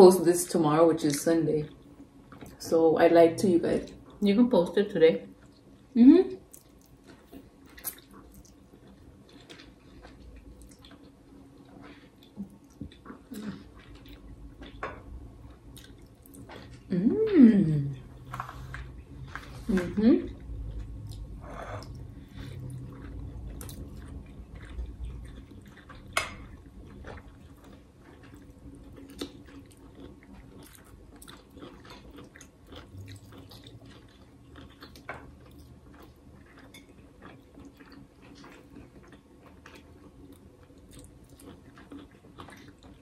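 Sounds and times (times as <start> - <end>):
close chewing and eating: 0.4 - 43.0.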